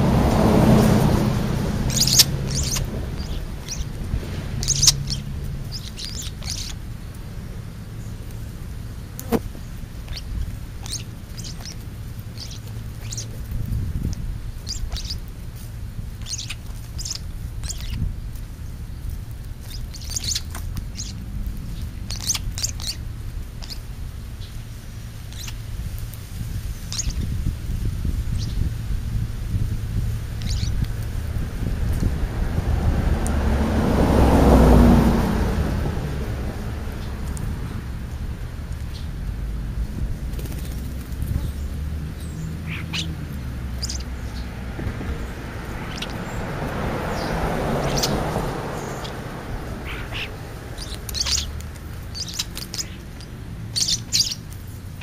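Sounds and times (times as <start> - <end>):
starlings chirping and clicking: 0.0 - 32.2, 36.1 - 39.3, 40.2 - 55.0
low steady rumble: 0.0 - 55.0.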